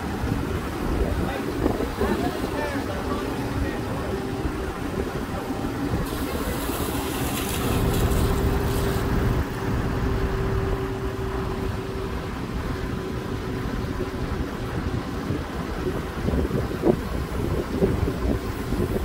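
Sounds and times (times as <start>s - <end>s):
diesel engine running: 0.0s - 19.0s
wind buffeting microphone: 0.0s - 19.0s.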